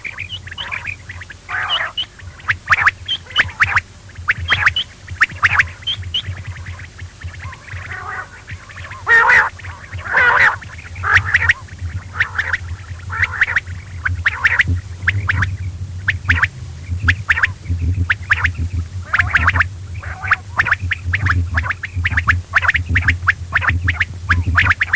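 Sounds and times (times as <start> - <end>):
low hum: 0.0 - 24.9
quail calling: 0.0 - 24.9.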